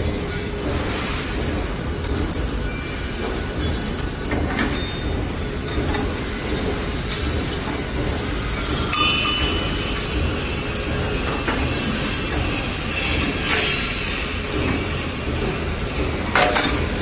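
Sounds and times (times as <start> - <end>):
workshop background noise: 0.0 - 17.0
roller chain clinking and rattling: 2.0 - 17.0.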